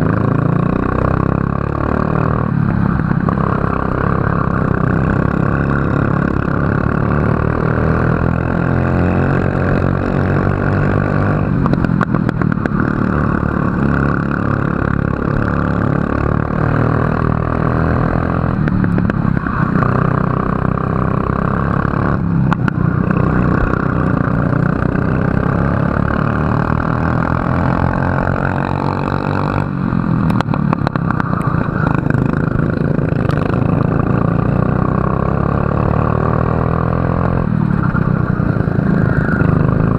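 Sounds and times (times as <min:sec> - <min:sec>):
racing kart engine running hard: 0:00.0 - 0:39.9.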